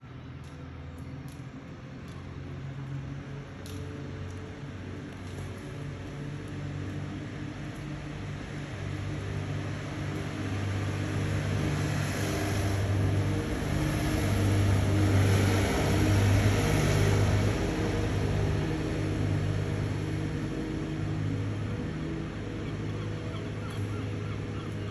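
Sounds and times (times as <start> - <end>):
low engine hum: 0.0 - 24.9
vehicle passing: 0.2 - 24.9.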